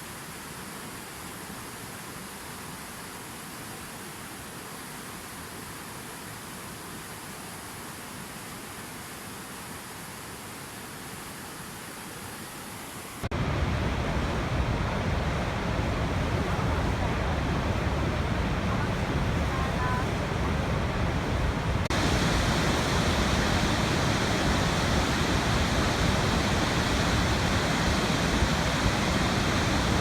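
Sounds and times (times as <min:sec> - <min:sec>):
waterfall rushing water: 0:00.0 - 0:30.0.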